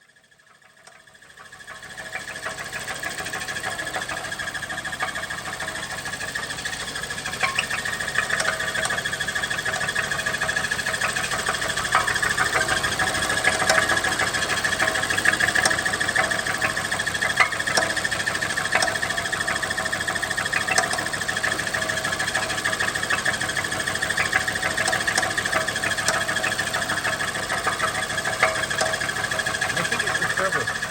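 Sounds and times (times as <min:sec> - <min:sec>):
car engine with whine and clatter: 0:00.0 - 0:30.9
engine clicks: 0:00.6 - 0:30.9.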